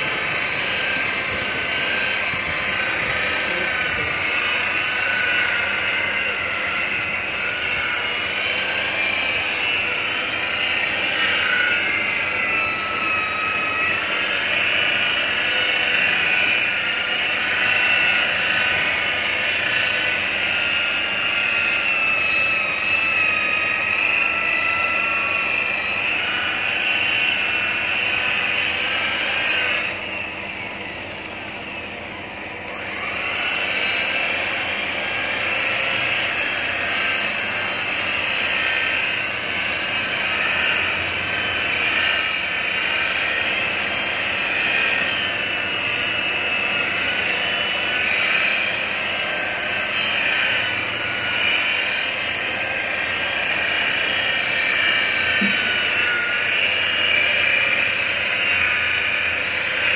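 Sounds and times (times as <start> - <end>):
electric car polisher whining: 0.0 - 59.9.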